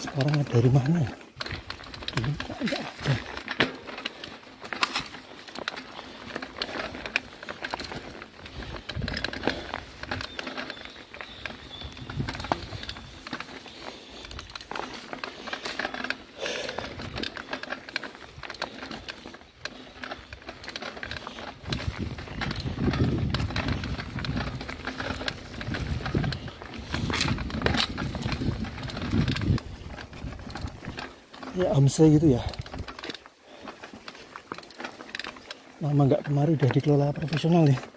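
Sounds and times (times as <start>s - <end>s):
bike rattling: 0.0s - 37.9s
tyres crunching on stones: 0.0s - 37.9s.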